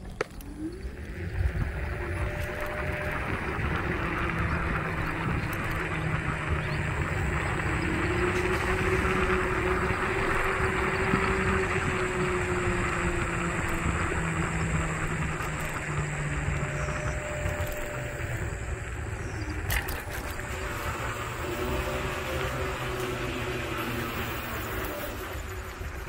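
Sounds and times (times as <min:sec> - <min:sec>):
faint electric motor whine: 0:00.0 - 0:26.0
wind noise: 0:00.0 - 0:26.0.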